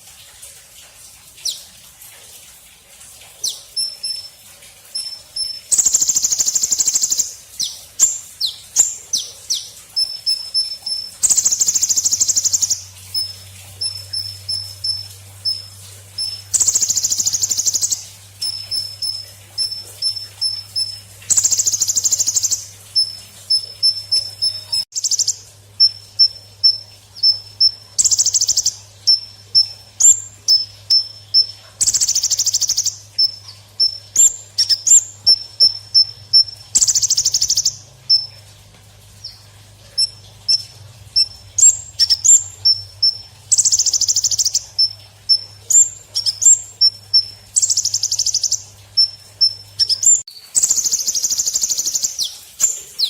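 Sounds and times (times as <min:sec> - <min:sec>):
grasshopper chirping: 0:04.9 - 0:38.3, 0:40.0 - 0:53.0.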